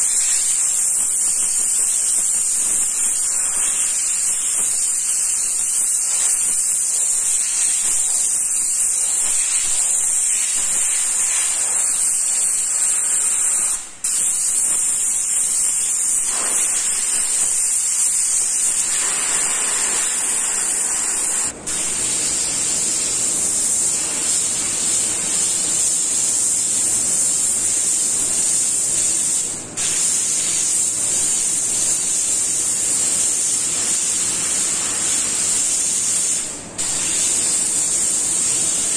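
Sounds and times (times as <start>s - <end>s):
airbrush spraying hiss: 0.0s - 38.9s.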